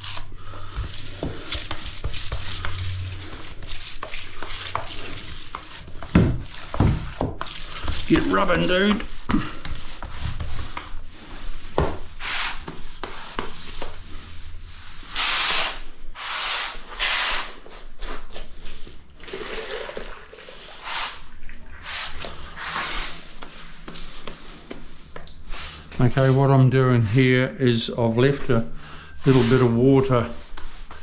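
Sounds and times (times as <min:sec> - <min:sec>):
damp sponge scrubbing tiles: 0:00.0 - 0:31.0.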